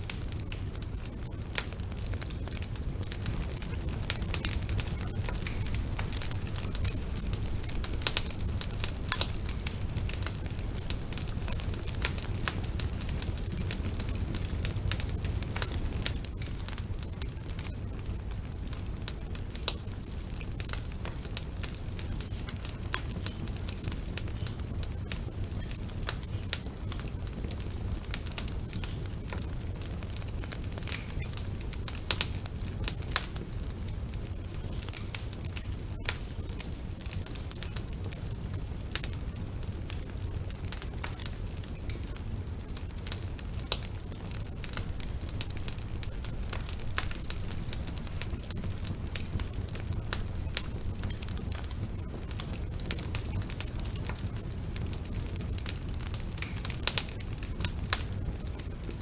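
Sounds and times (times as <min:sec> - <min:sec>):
fire crackling and popping: 0:00.0 - 0:59.0
fire flames rumbling: 0:00.0 - 0:59.0.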